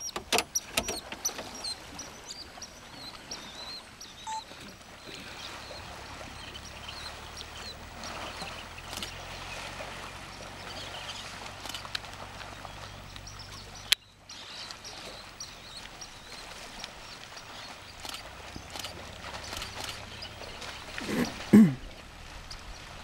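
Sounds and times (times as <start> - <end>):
birds chirping: 0.0 - 23.0
faint water splashing: 0.0 - 23.0.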